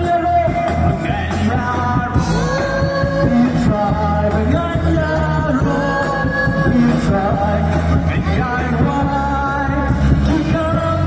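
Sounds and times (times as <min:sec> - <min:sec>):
drum kit: 0:00.0 - 0:11.0
group of voices singing: 0:00.0 - 0:11.0
steady bass line: 0:00.0 - 0:11.0.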